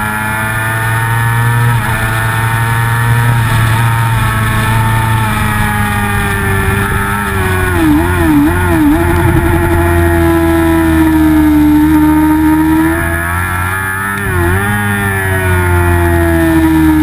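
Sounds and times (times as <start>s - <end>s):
motorcycle engine at high revs: 0.0s - 17.0s
wind noise: 1.4s - 16.0s.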